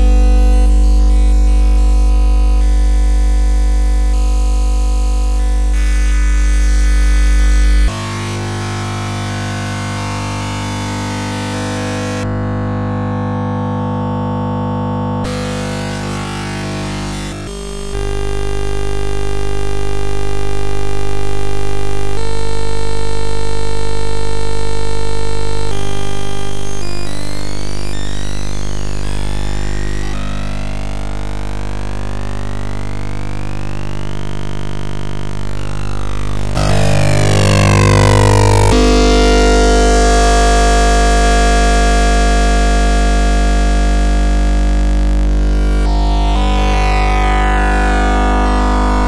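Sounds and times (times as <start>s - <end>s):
synthesized low drone with overtones: 0.0s - 49.0s.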